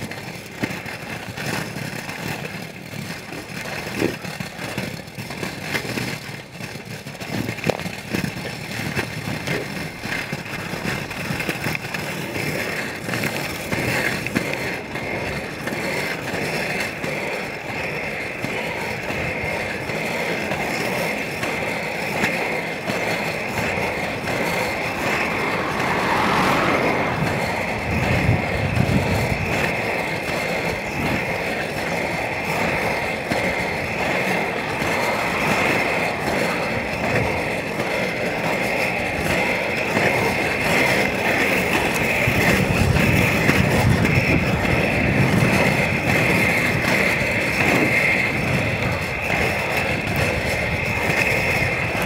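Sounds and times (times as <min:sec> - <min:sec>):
skate wheels rolling on asphalt: 0:00.0 - 0:52.0.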